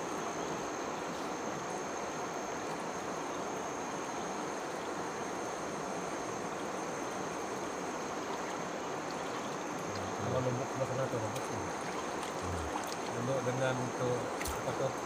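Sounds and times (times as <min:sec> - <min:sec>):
high-pitched insect drone: 0:00.0 - 0:15.0
flowing river water: 0:00.2 - 0:15.0.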